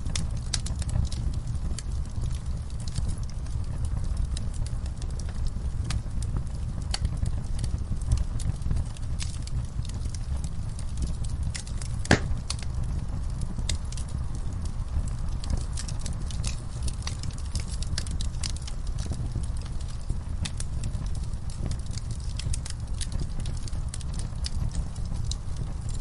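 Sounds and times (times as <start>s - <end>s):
low rumble of flame: 0.0s - 26.0s
wood fire crackling: 0.0s - 26.0s.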